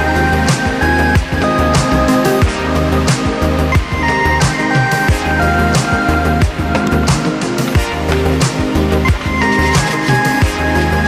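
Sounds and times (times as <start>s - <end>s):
music with beat and deep bass: 0.0s - 11.0s.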